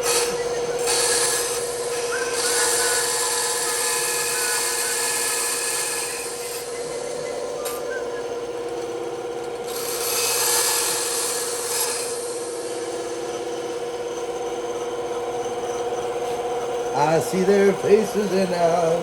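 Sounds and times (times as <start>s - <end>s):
bandsaw running: 0.0s - 19.0s
saw blade cutting wood: 0.0s - 19.0s.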